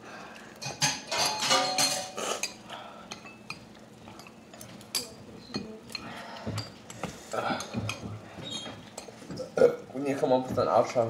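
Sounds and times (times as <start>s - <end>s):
chopsticks clinking on ceramic bowls: 0.6s - 9.5s.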